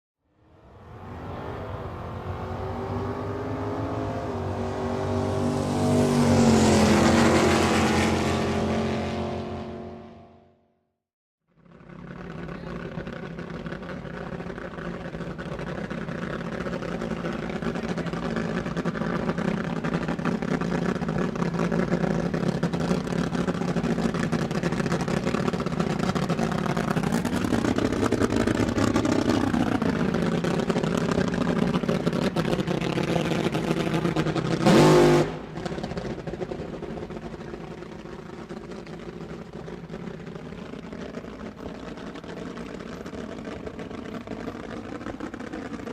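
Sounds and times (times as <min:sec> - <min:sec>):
loud engine blast: 0:00.3 - 0:10.6, 0:11.6 - 0:45.9
sports car engine revving: 0:00.6 - 0:10.4, 0:11.8 - 0:45.9.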